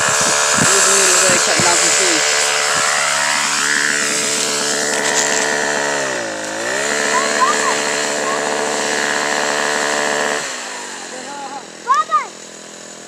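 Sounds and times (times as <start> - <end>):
pole saw engine running: 0.0 - 13.0.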